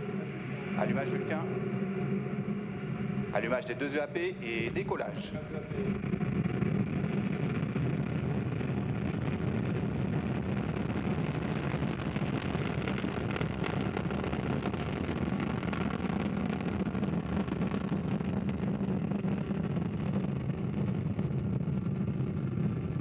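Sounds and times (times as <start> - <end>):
rocket engine roar: 0.0 - 23.0.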